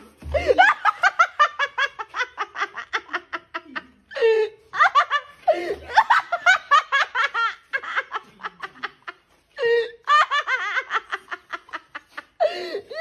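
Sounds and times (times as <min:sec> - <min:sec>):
person laughing heartily: 0:00.1 - 0:13.0.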